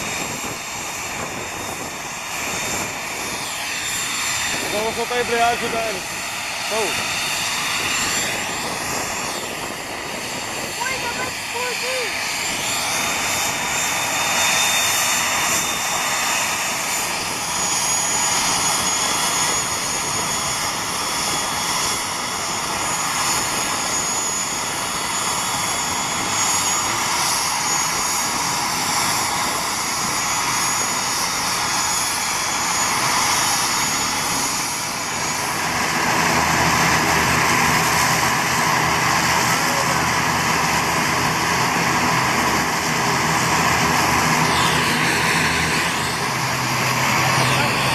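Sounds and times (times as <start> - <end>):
propeller drone: 0.0 - 47.9
turbine whine: 0.0 - 47.9.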